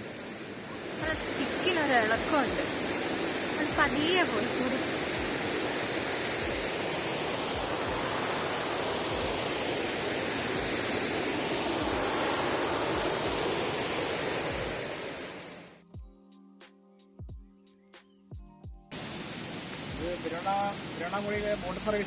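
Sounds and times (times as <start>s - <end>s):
background music: 0.0s - 13.6s, 14.5s - 19.0s
rushing water roar: 0.0s - 15.8s, 18.9s - 22.0s.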